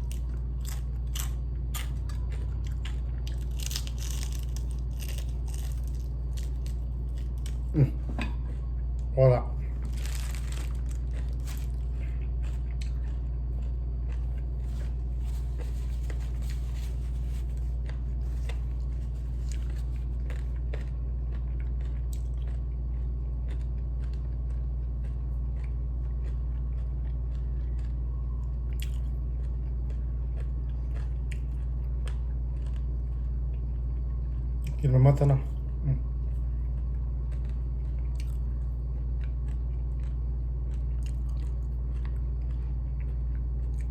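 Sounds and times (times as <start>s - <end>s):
chewing crispy fried chicken: 0.0s - 43.9s
low hum: 0.0s - 43.9s.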